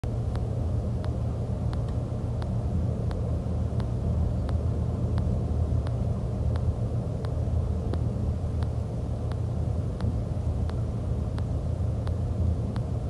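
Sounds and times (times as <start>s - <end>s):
bus engine and road drone: 0.0s - 13.0s
light repeating click: 0.3s - 13.0s.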